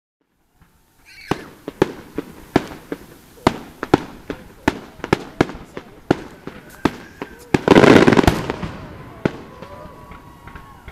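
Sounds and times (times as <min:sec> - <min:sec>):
firework shells bursting: 0:00.5 - 0:10.9.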